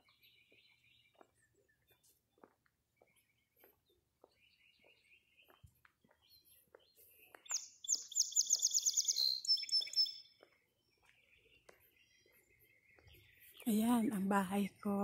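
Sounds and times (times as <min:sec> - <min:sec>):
faint footsteps walking: 0:00.0 - 0:14.8
songbird chirping: 0:00.0 - 0:15.0.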